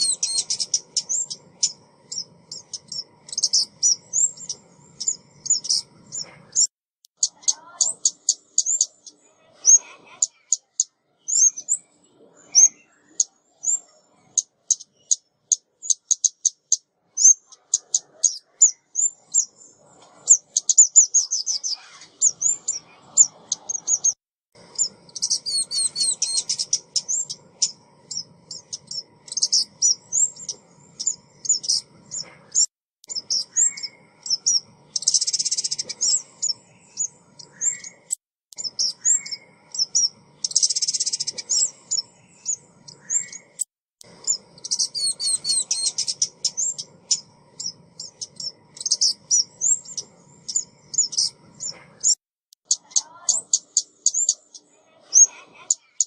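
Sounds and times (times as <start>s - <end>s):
bird chirping: 0.0s - 56.0s
buzzy bird trills: 0.0s - 56.0s.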